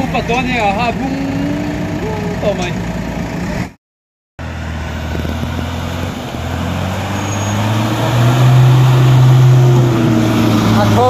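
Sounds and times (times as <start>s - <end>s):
vehicle engine revving: 0.0s - 3.8s, 4.4s - 11.0s.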